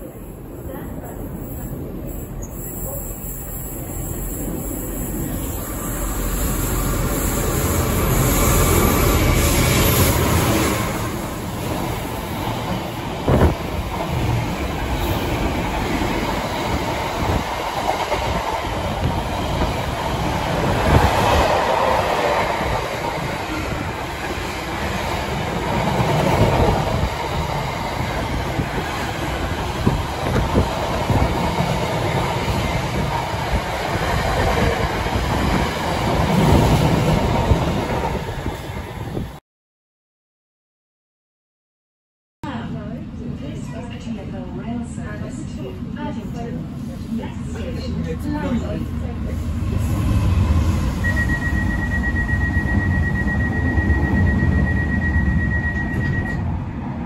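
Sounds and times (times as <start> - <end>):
diesel locomotive passing: 0.0 - 39.4, 44.9 - 57.0.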